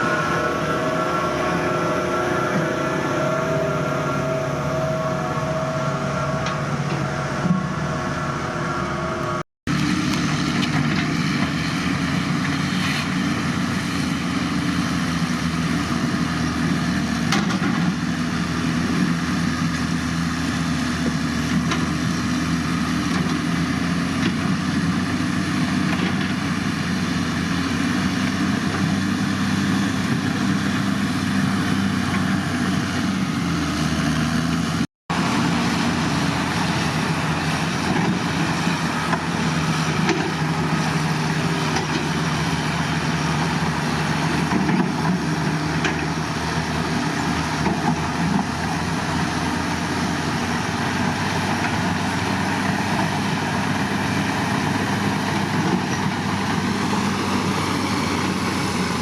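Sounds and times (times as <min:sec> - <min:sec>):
diesel machinery engine running: 0:00.0 - 0:59.0
lower stronger engine sound: 0:00.0 - 0:59.0.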